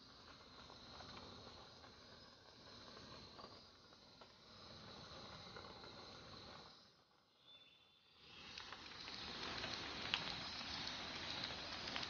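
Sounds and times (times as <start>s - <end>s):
faint ticks: 0.1s - 6.8s, 8.4s - 12.0s.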